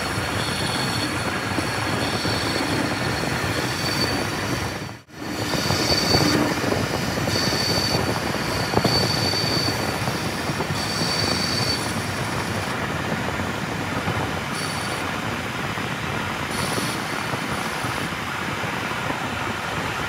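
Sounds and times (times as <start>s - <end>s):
lathe machining metal: 0.0s - 15.7s, 16.5s - 18.2s
high whine: 0.0s - 18.2s.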